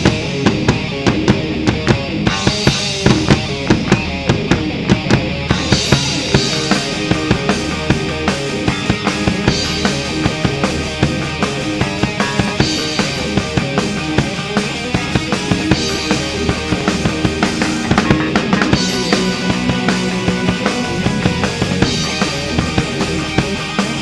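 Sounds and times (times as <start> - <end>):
drum kit beat: 0.0 - 24.0
electric bass guitar: 0.0 - 24.0
rock band playing: 0.0 - 24.0.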